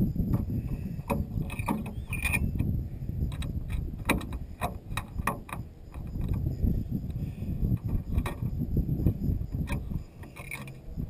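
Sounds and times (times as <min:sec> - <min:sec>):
low wind rumble on microphone: 0:00.0 - 0:11.0.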